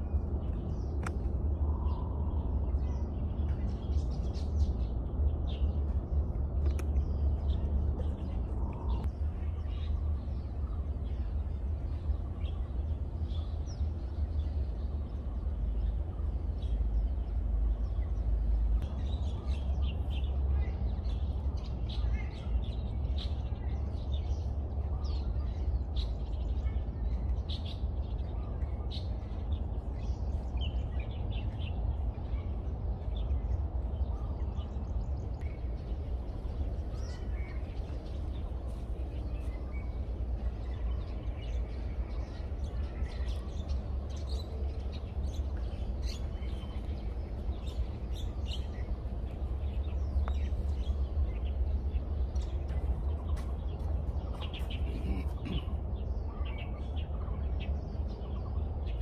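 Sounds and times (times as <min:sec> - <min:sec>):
birds chirping: 0:00.0 - 0:59.0
low outdoor rumble: 0:00.0 - 0:59.0.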